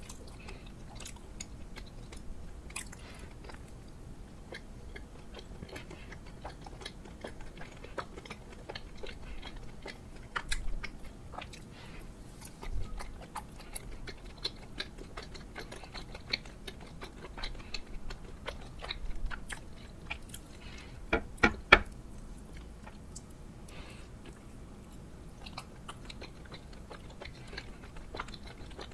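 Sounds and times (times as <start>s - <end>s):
person chewing food: 0.0s - 28.9s.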